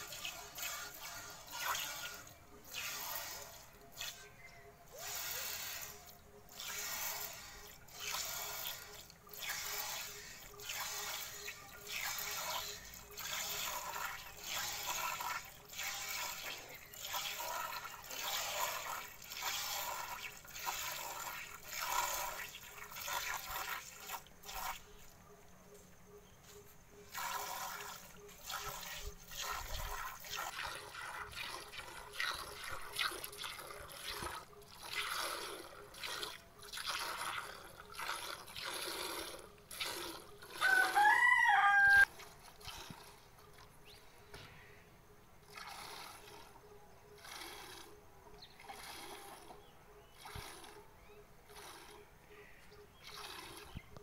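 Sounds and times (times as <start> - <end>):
milk squirting into steel bucket: 0.0 - 25.1, 27.1 - 43.8, 45.4 - 46.6, 48.6 - 49.6, 50.2 - 50.8, 53.0 - 54.0.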